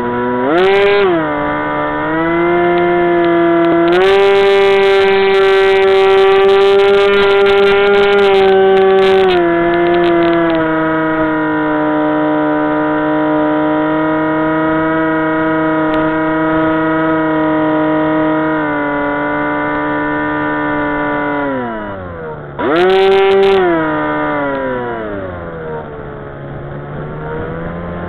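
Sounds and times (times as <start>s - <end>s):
model plane motor whining: 0.0s - 28.0s.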